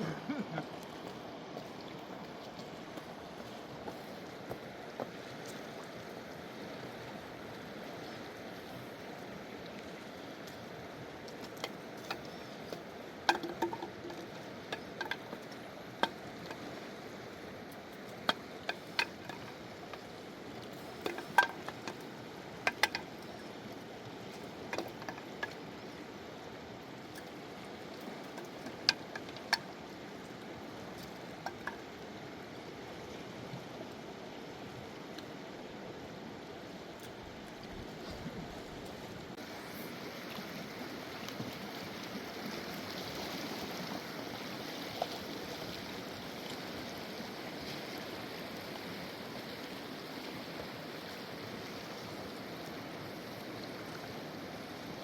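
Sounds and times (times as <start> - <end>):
rushing mountain river: 0.0 - 55.0.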